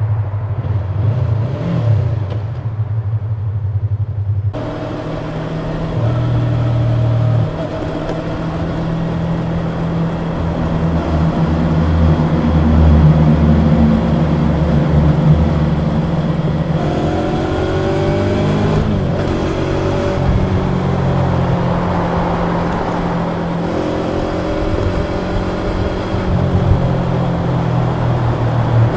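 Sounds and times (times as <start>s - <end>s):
motorcycle engine running: 4.6s - 28.9s.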